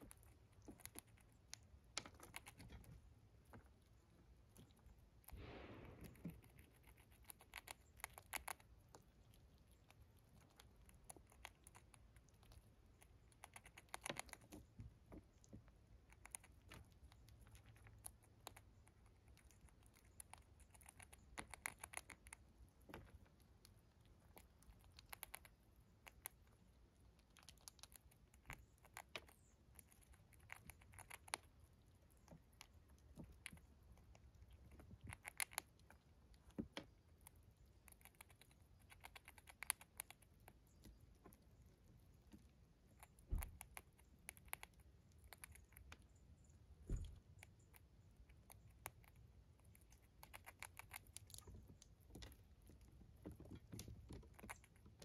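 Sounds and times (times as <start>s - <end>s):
squirrel gnawing corn: 0.0s - 55.0s.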